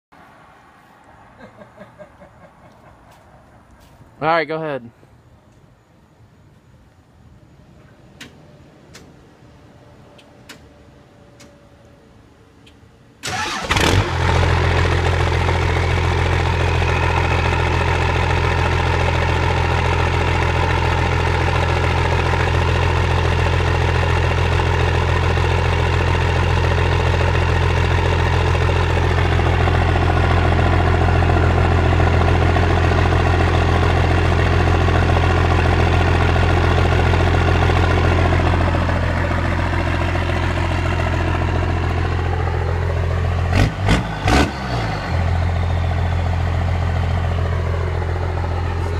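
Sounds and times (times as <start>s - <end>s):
diesel engine cranking and idling: 7.6s - 48.9s.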